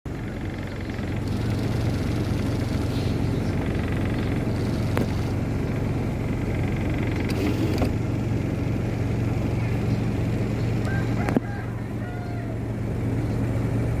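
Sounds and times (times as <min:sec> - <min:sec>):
diesel train engine humming: 0:00.1 - 0:14.0.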